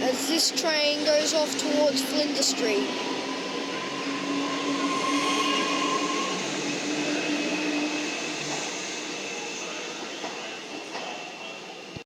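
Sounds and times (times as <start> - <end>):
electric train pulling away: 0.0 - 11.9.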